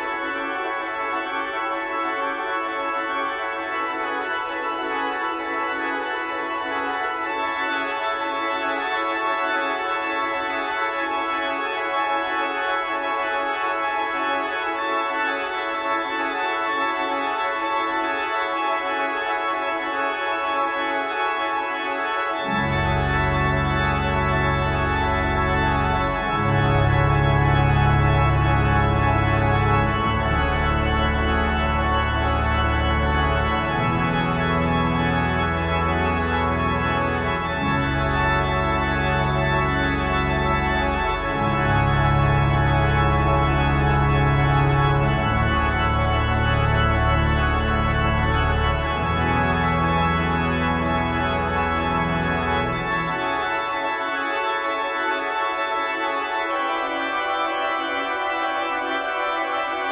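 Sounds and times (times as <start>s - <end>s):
organ pedal bass notes: 0.0s - 59.9s
pipe organ repeating figures: 0.0s - 59.9s.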